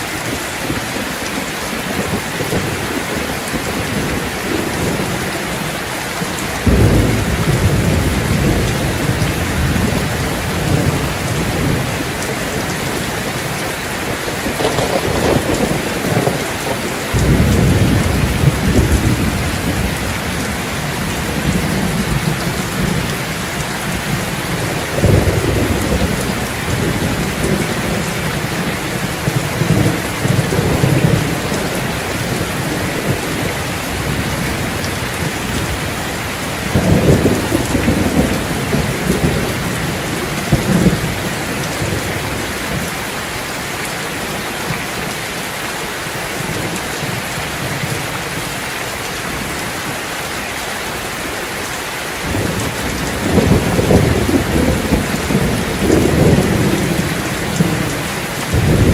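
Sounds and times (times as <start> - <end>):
thunder rumbling: 0.0 - 43.4, 52.2 - 58.9
steady rain falling: 0.0 - 58.9.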